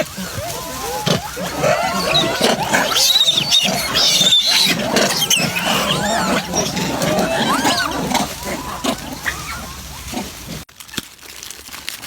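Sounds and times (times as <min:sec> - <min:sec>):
high-pitched monkey screeches: 0:00.0 - 0:10.6
monkeys calling: 0:00.0 - 0:10.6.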